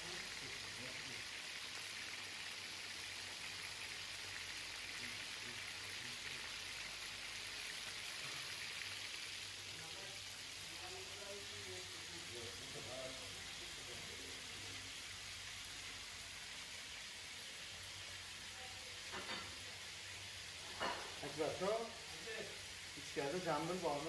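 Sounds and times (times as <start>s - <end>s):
food deep-frying in hot oil: 0.0s - 24.0s.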